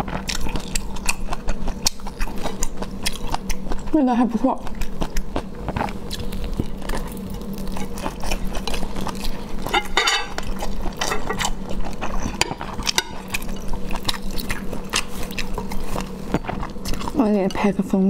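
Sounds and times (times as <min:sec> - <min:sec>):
low steady hum: 0:00.0 - 0:18.0
wet chewing and mouth sounds: 0:00.0 - 0:18.0.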